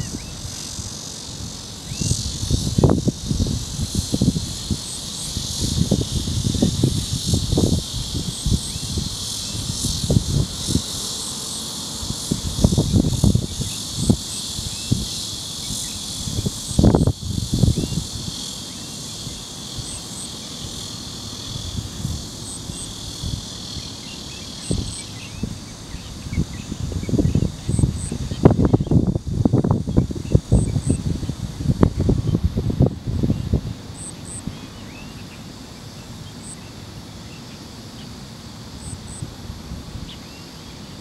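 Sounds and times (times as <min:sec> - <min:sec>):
wind rumble on microphone: 0:00.0 - 0:11.2, 0:12.0 - 0:18.5, 0:19.1 - 0:35.1
insects shrilling: 0:00.0 - 0:41.0.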